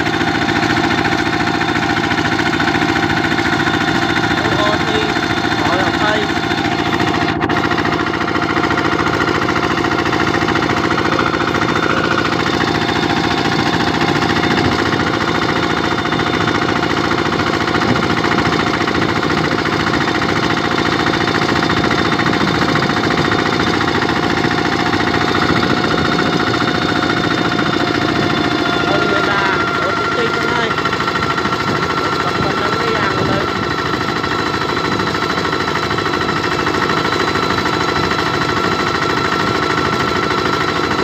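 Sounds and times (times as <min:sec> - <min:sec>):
diesel tractor engine chugging: 0:00.0 - 0:41.0.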